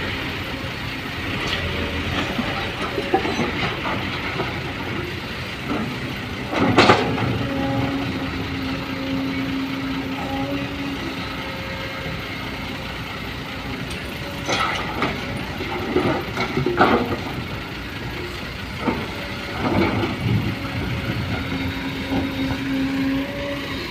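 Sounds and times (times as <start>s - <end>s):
vehicle engine rumbling: 0.0s - 23.9s.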